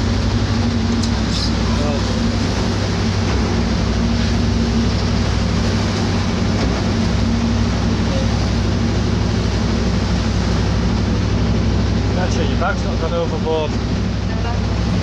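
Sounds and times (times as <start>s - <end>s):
boat engine humming: 0.0s - 15.0s
water rushing against hull: 0.0s - 15.0s
wind: 0.0s - 15.0s.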